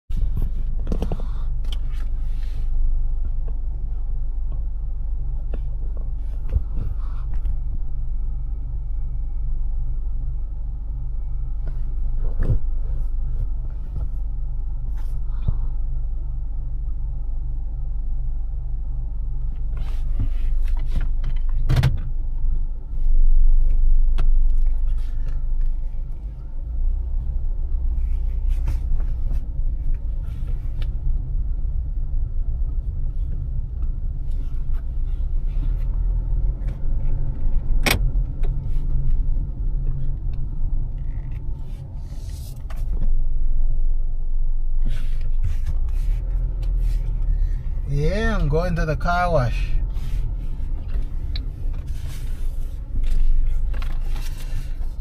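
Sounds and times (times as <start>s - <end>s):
car engine low rumble: 0.0s - 55.0s.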